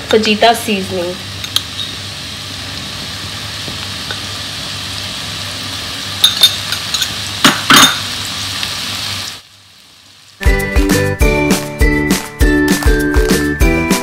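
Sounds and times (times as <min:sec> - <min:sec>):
vegetables sizzling in oil: 0:00.0 - 0:13.5.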